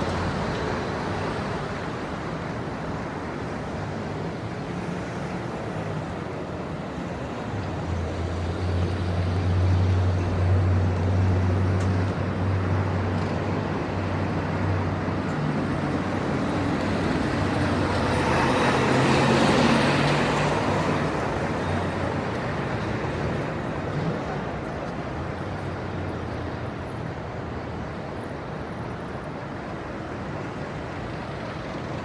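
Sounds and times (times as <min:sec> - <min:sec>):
light city traffic: 0:00.0 - 0:32.0.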